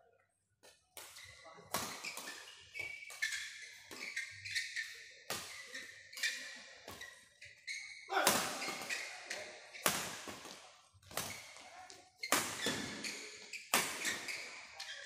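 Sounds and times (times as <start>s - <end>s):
rackets hitting shuttlecock: 0.6s - 7.1s, 8.1s - 11.6s, 12.2s - 14.4s.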